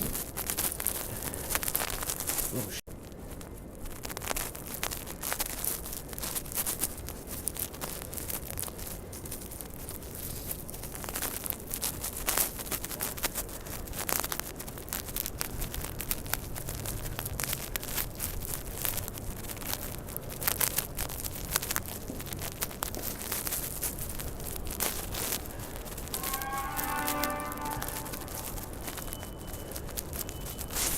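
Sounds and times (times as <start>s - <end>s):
crackles and rustles: 0.0s - 30.9s.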